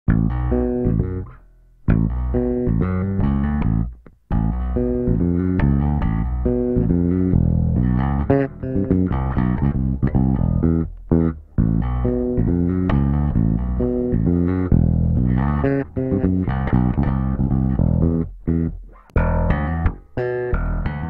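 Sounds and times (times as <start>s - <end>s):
electric bass guitar playing: 0.1s - 21.0s.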